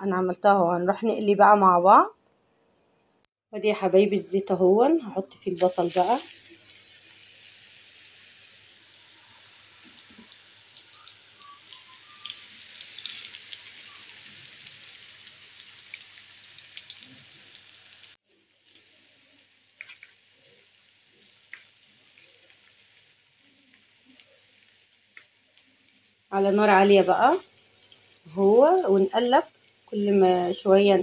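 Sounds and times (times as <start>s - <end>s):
onions sizzling in hot oil: 4.0s - 31.0s.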